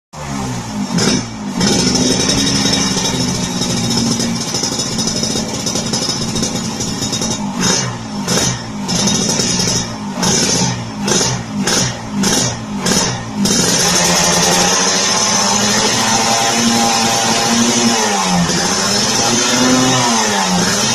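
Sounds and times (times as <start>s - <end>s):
two-stroke motorcycle revving: 0.2s - 20.9s.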